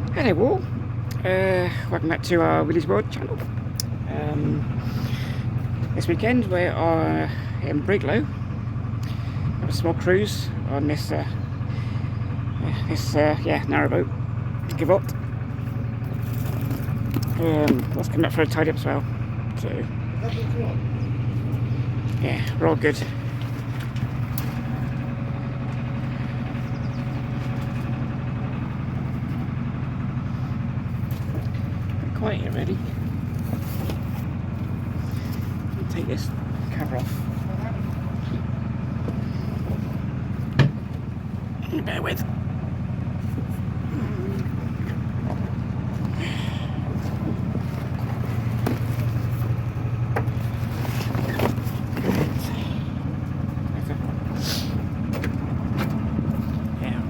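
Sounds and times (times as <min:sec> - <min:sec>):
boat engine idling: 0:00.0 - 0:57.0.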